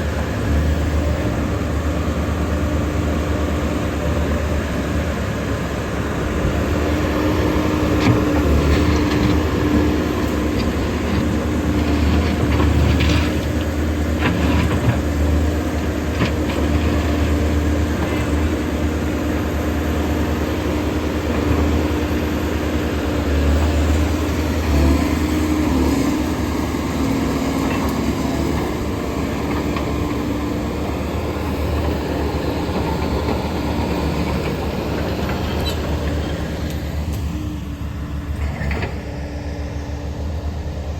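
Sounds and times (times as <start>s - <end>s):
excavator diesel engine rumbling: 0.0s - 40.9s.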